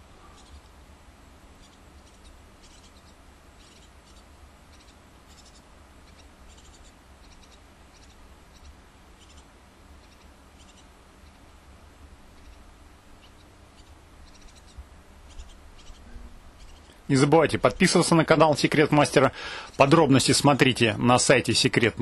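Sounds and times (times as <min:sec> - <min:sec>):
low steady hum: 0:00.0 - 0:22.0
nestlings chirping: 0:00.0 - 0:22.0.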